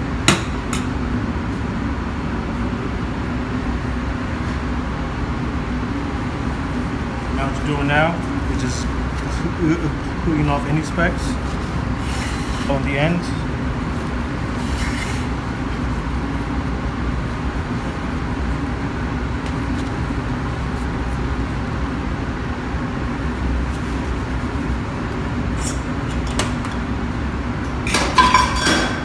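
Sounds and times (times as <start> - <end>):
kitchen ventilation rumble: 0.0 - 29.0.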